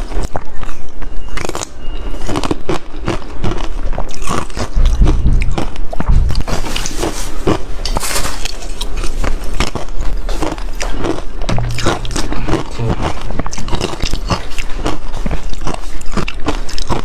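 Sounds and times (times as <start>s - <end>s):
crunching of shaved ice: 0.0s - 17.0s.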